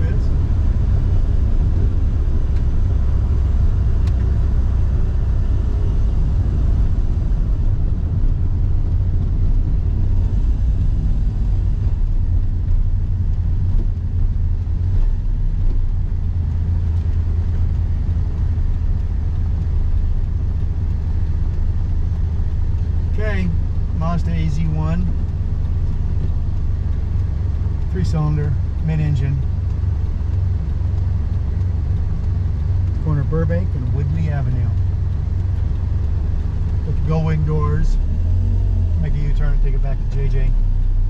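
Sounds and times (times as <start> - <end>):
car engine rumble: 0.0 - 41.0
road noise: 0.0 - 41.0.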